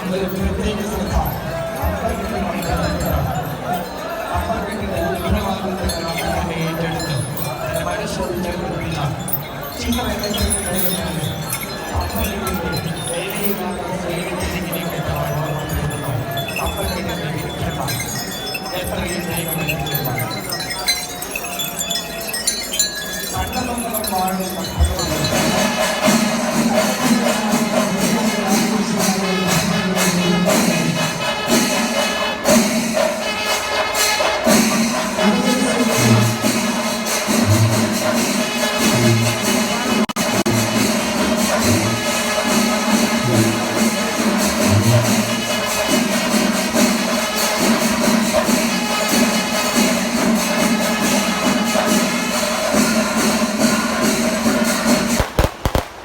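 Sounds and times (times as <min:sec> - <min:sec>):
jingling cymbals: 0:00.0 - 0:56.0
rapid percussion: 0:00.0 - 0:56.0.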